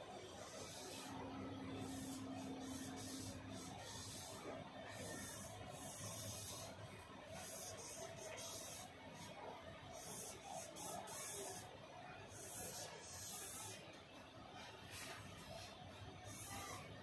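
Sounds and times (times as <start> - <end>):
marker scratching on paper: 0.4 - 11.6, 12.3 - 13.9, 14.9 - 17.0.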